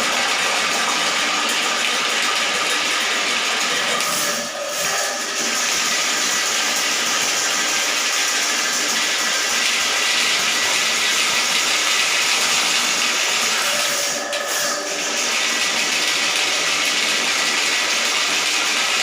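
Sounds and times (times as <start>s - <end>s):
water rushing into toilet: 0.0s - 19.0s.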